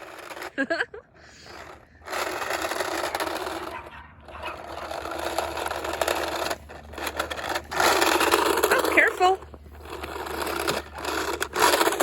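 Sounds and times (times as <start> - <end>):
toy truck wheels rolling: 0.0 - 12.0.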